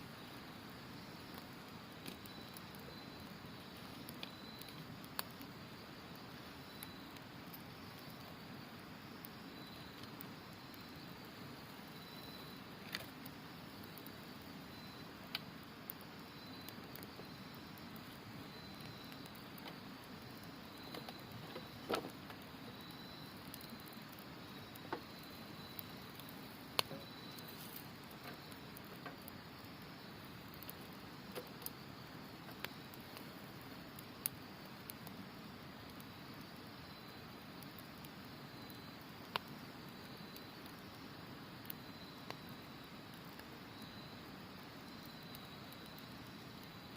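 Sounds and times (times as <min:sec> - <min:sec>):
campfire crackling and popping: 0:00.0 - 0:46.9
insect chirping: 0:00.0 - 0:46.9.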